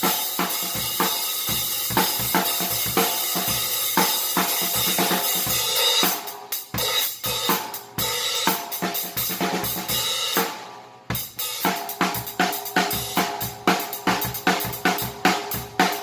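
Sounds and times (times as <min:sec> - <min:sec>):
snare drum: 0:00.0 - 0:16.0.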